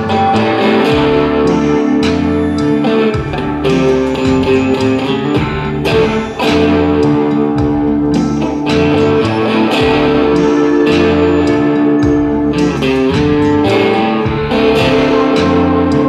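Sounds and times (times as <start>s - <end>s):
electric guitar chords ringing: 0.0s - 16.0s.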